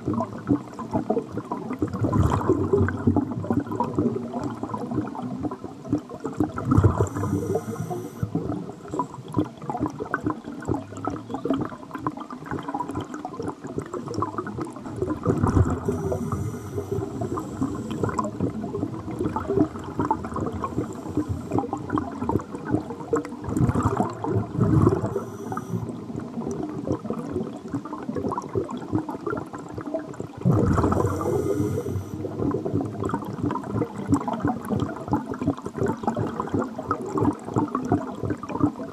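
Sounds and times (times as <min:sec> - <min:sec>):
regulator bubbles: 0:00.0 - 0:38.9
water gurgling: 0:00.0 - 0:38.9.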